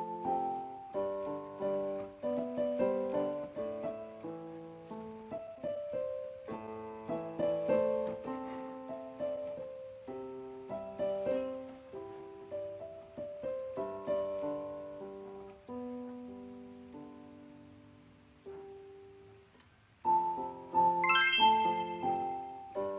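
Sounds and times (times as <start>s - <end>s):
slow piano melody: 0.0s - 22.9s.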